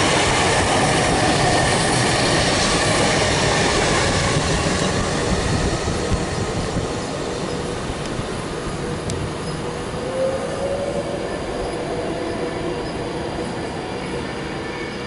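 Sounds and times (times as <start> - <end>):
faint train whine: 0.0 - 15.0
train wheels rushing on rails: 0.0 - 15.0.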